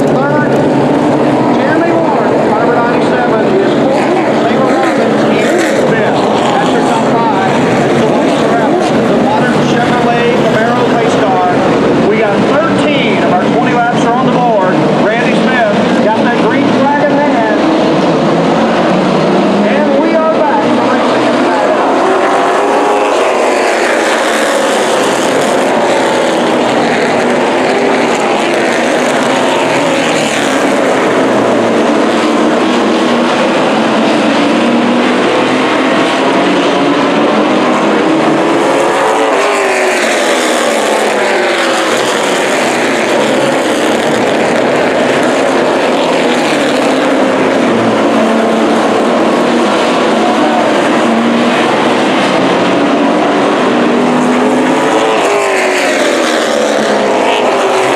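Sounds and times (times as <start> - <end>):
race car engines passing: 0.0 - 57.9.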